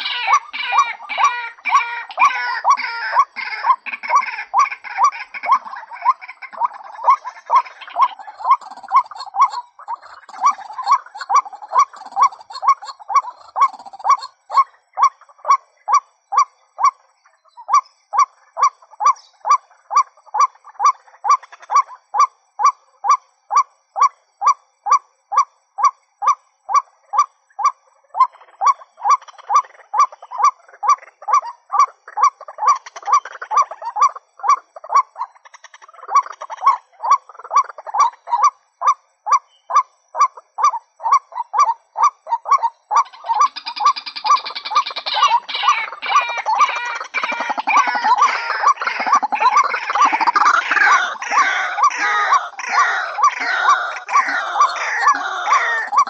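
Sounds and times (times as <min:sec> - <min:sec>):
waterhen calling: 0:00.0 - 0:17.0, 0:17.6 - 0:56.0
rougher bird calls: 0:00.0 - 0:56.0.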